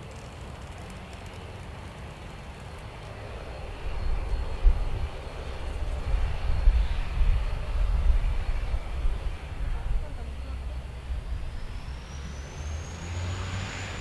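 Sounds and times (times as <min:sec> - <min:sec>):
airliner engines rumbling: 0:00.0 - 0:14.0.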